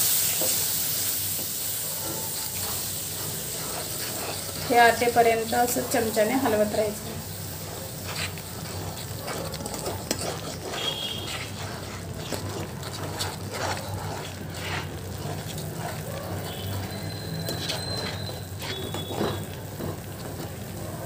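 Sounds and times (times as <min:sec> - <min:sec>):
spatula scraping a pan: 0:00.0 - 0:21.0.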